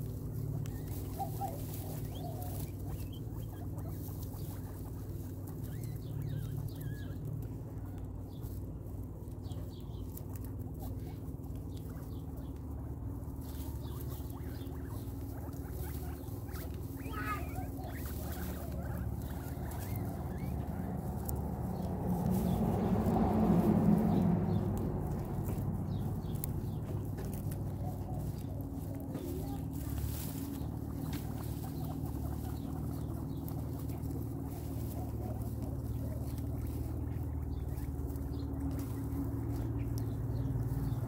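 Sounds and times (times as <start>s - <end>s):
guinea pigs chewing crunchily: 0.0s - 41.0s
steady low hum: 0.0s - 41.0s.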